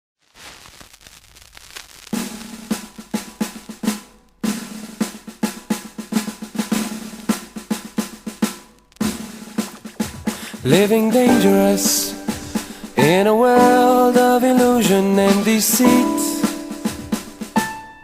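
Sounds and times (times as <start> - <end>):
drum beat with snare hits: 2.2 - 18.0.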